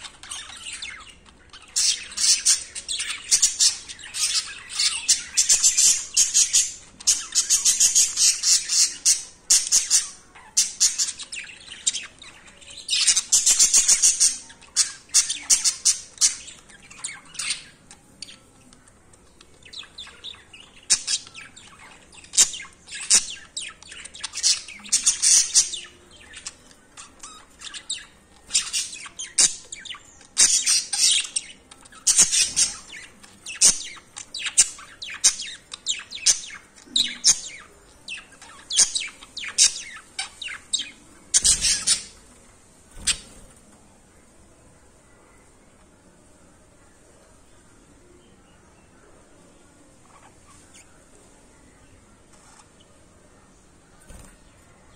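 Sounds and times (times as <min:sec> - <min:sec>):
budgerigars chirping and chattering: 0:00.0 - 0:43.7, 0:49.8 - 0:53.2.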